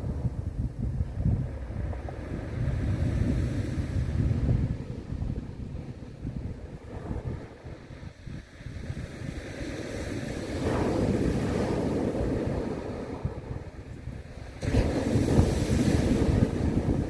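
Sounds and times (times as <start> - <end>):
wind buffeting microphone: 0.0 - 17.0
sea waves breaking: 1.5 - 17.0.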